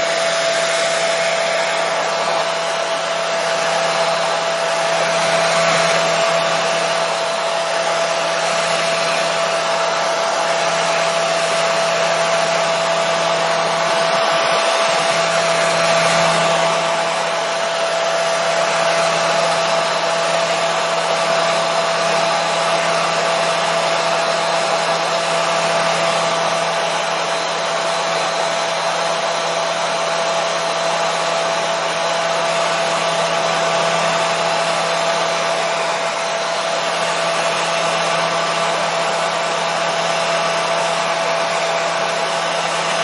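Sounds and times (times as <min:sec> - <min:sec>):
hair dryer running: 0:00.0 - 0:43.0.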